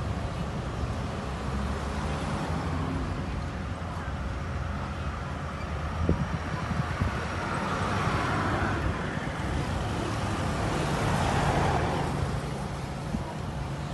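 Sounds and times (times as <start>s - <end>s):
cars passing on road: 0.0s - 13.9s.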